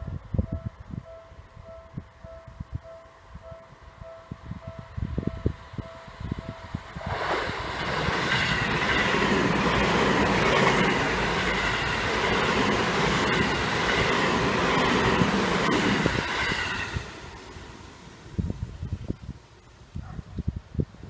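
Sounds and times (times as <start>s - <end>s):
electric train passing: 0.0s - 19.2s.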